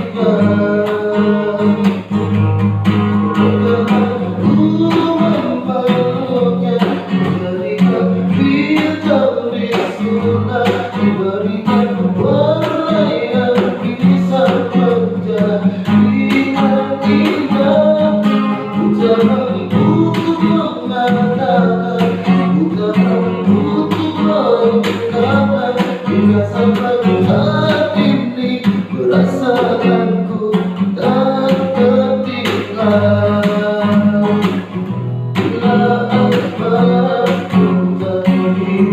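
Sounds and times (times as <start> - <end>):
person singing: 0.0 - 34.7, 35.4 - 38.9
strummed acoustic guitar: 0.0 - 38.9.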